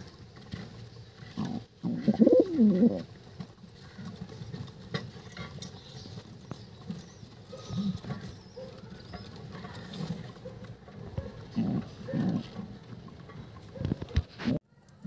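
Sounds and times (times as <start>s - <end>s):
dove cooing: 1.2s - 4.4s, 5.0s - 14.2s.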